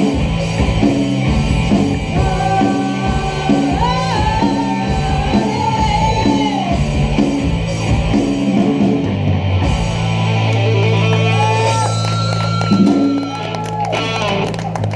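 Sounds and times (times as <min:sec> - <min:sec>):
distorted electric guitar: 0:00.0 - 0:14.9
live rock band: 0:00.0 - 0:14.9.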